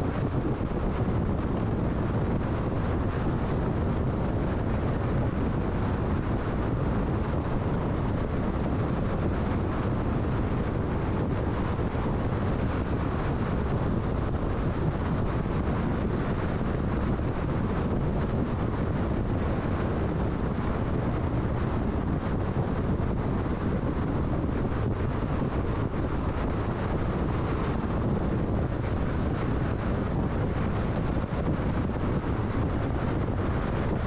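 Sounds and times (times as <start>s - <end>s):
rushing air: 0.0s - 34.0s.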